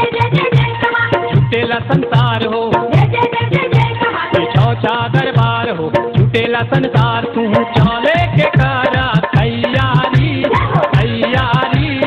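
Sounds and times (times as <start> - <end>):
devotional folk music: 0.0 - 12.0
steady drum beat: 0.0 - 12.0.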